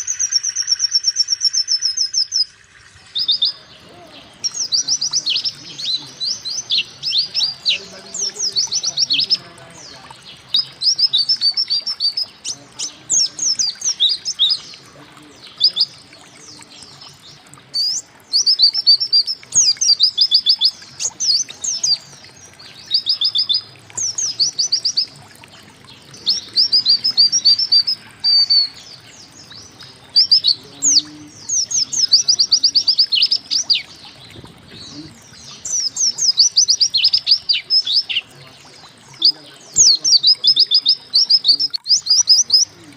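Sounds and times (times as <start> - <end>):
small bird chirping and twittering: 0.0 - 42.9.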